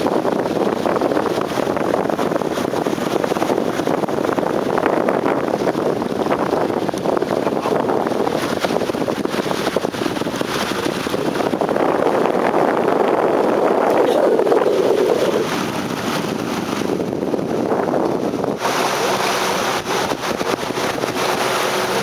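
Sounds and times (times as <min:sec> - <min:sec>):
small boat rushing on river: 0:00.0 - 0:22.0
wind buffeting microphone: 0:00.0 - 0:22.0.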